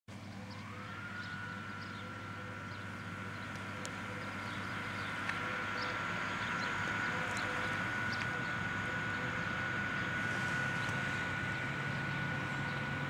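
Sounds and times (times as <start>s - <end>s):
electric locomotive whine: 0.1s - 13.0s
low hum: 0.1s - 13.0s.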